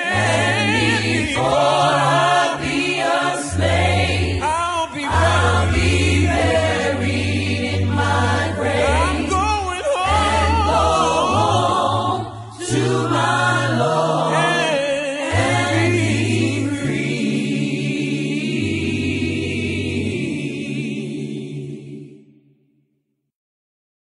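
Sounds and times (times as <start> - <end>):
choir singing: 0.0 - 22.6.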